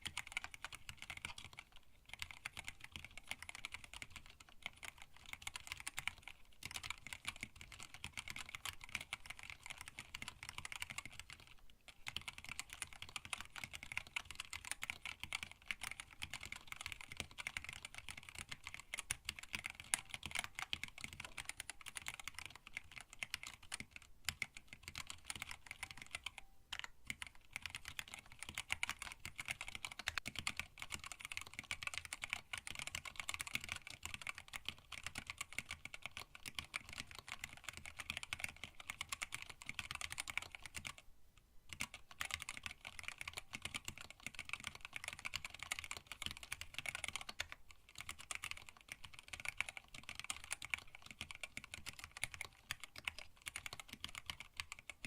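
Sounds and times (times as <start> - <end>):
fast typing on mechanical keyboard: 0.0 - 41.0, 41.7 - 55.0.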